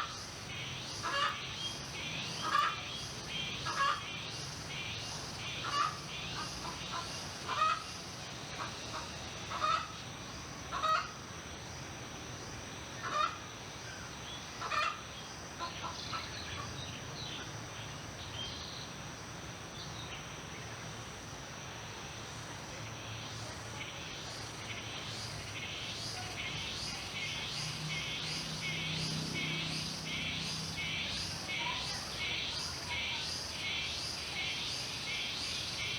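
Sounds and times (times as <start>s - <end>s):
high insect drone: 0.0s - 35.9s
insect chirping in rapid pulses: 0.0s - 35.9s.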